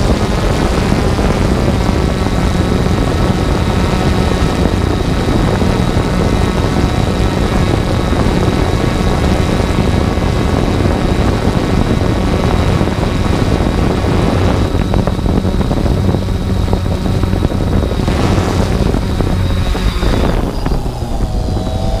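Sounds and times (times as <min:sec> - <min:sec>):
quadcopter propellers droning: 0:00.0 - 0:22.0.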